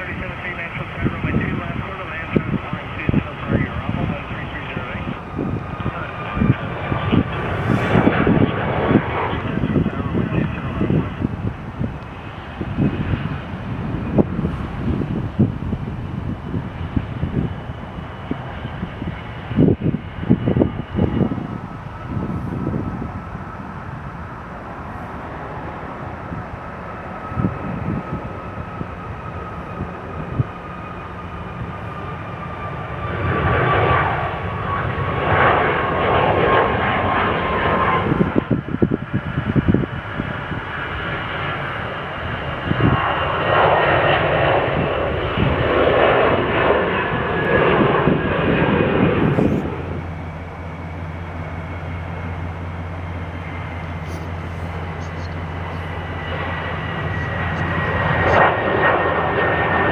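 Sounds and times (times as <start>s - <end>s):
jet engine whine: 0.0s - 59.9s
rushing jet roar: 0.0s - 59.9s
steady low hum: 0.0s - 59.9s.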